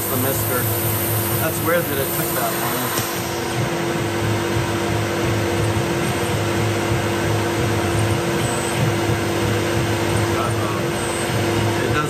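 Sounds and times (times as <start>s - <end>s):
coolant nozzle hissing: 0.0s - 12.0s
milling machine spindle running: 0.0s - 12.0s.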